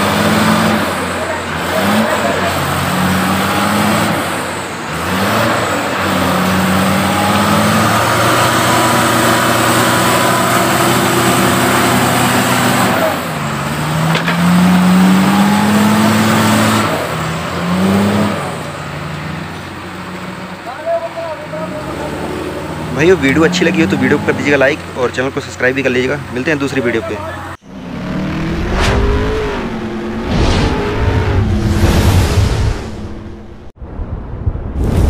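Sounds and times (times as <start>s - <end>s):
backhoe loader revving: 0.0s - 33.6s
diesel engines revving hard: 0.0s - 33.8s.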